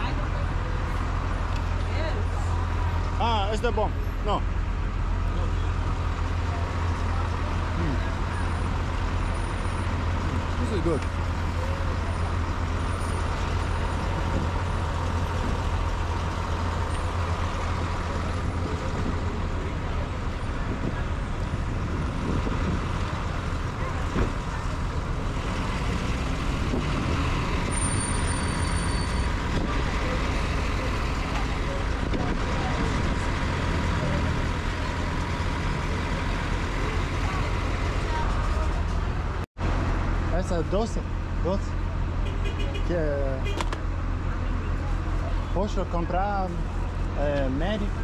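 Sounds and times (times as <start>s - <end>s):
bus engine idling: 0.0s - 48.0s
street noise: 0.0s - 48.0s.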